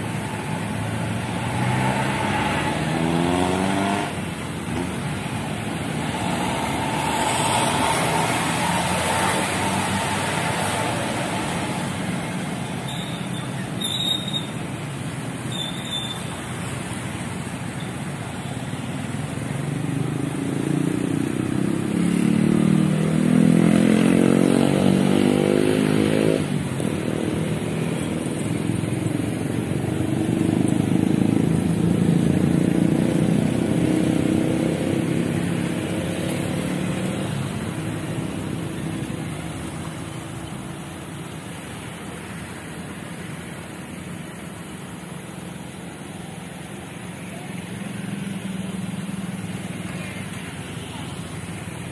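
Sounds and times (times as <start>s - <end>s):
road traffic passing: 0.0s - 51.9s.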